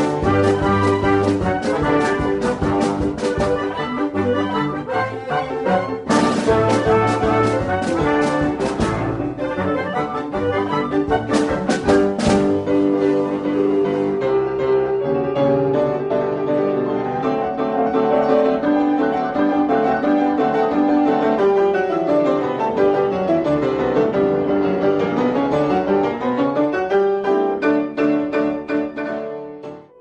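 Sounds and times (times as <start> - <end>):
lively solo piano: 0.0 - 30.0.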